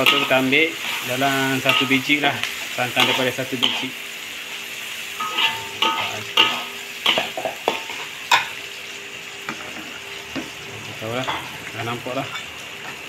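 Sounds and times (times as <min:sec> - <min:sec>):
sizzling bubbling: 0:00.0 - 0:13.0.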